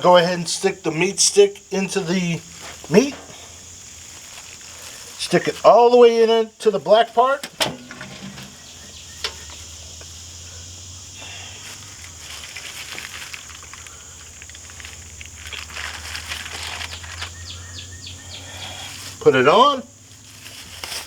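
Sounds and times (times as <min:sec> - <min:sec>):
rustling handling noise: 0:00.0 - 0:10.2, 0:11.5 - 0:17.4, 0:18.7 - 0:21.0
steady high hiss: 0:00.0 - 0:21.0.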